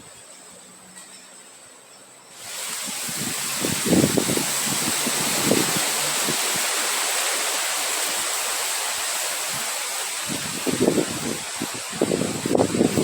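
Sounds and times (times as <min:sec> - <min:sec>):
rushing wind: 0:02.3 - 0:13.0
wind buffeting microphone: 0:02.4 - 0:13.0.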